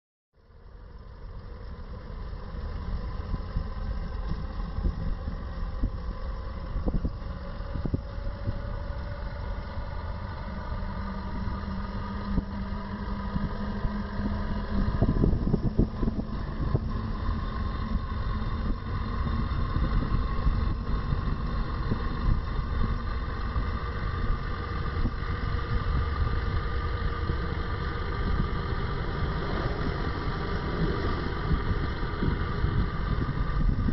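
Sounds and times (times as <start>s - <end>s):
motor vehicle engine rumble: 0.4s - 33.9s.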